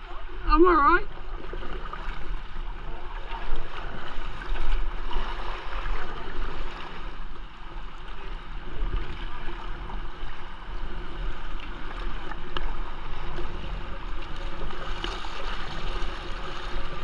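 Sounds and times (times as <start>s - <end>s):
paddle blades splashing: 0.0s - 17.0s
water rushing against hull: 0.0s - 17.0s.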